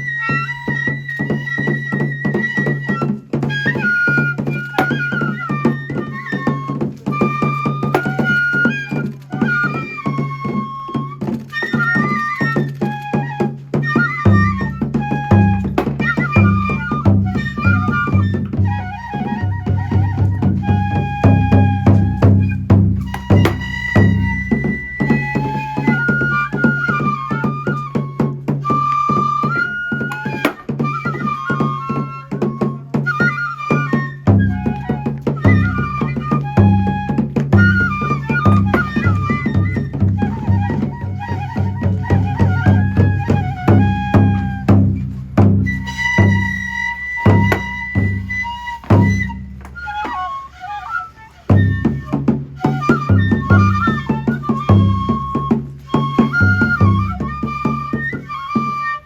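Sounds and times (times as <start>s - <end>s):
rhythmic taiko drum beats: 0.0s - 50.7s, 51.5s - 59.0s
bamboo flute melody: 0.0s - 59.0s.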